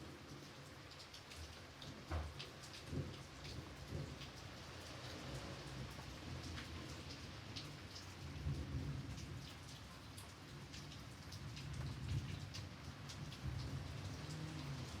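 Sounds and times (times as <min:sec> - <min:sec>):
rain drops hitting: 0:00.0 - 0:15.0.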